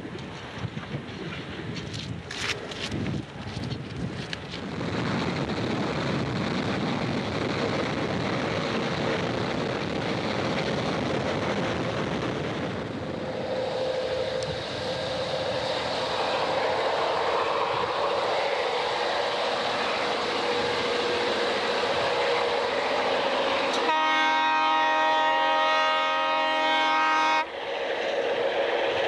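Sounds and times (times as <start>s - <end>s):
diesel locomotive engine hum: 0.0s - 29.0s
train wheels rumbling: 0.0s - 29.0s.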